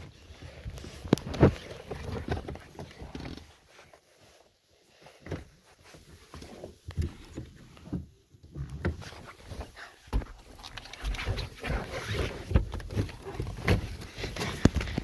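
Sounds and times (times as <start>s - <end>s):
phone rustling against clothing: 0.3s - 15.0s.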